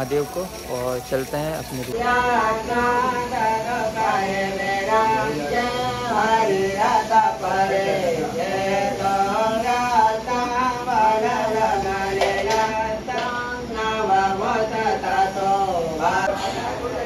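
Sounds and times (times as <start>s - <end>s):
man singing slow chant: 0.0s - 17.0s.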